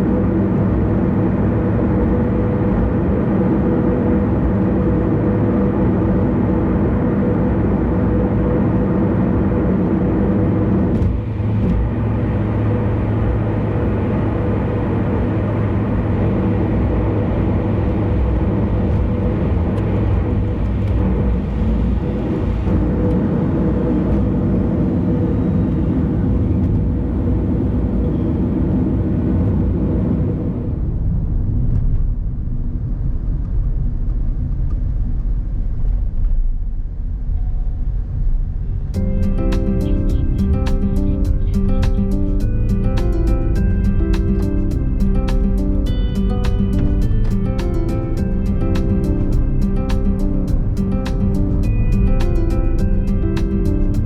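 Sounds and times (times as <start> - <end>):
faint steady hum: 0.0 - 54.0
tyres and engine rumble: 0.0 - 54.0.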